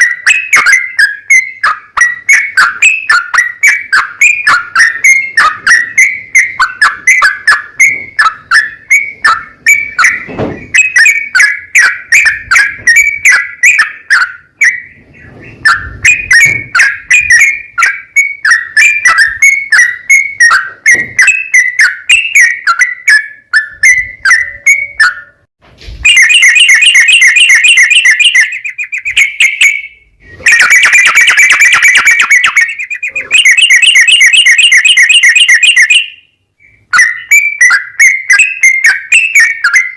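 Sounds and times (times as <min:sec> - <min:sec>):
bird fast rolling trills: 0:00.0 - 0:25.4, 0:26.0 - 0:39.9
bulbul chirping notes: 0:00.0 - 0:39.9.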